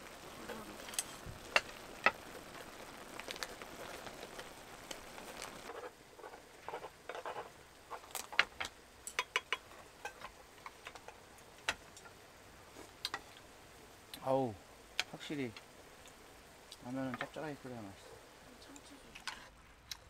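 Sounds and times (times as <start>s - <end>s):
camp stove hissing: 0.0s - 20.0s.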